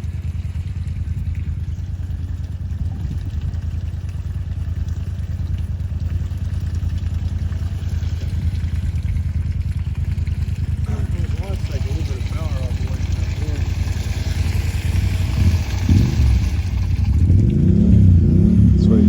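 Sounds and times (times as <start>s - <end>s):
vehicle engine under load: 0.0s - 19.0s.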